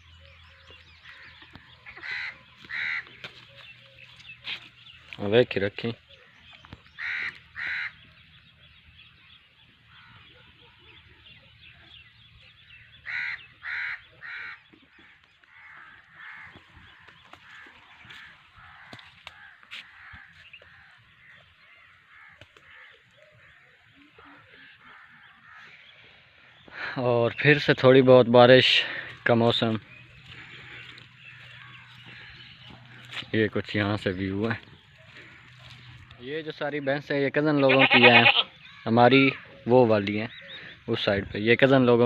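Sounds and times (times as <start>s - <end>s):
harsh bird calls: 0.0s - 42.0s.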